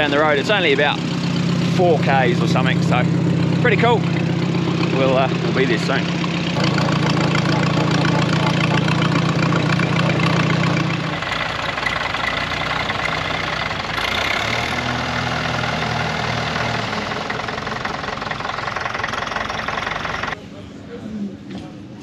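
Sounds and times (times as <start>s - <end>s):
tractor engine running loud: 0.0s - 20.4s
tractor idling: 0.0s - 20.4s.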